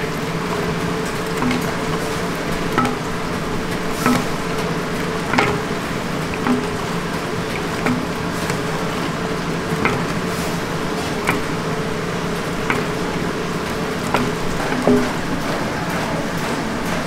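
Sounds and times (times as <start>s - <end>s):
wooden paddles clacking: 0.0s - 17.0s.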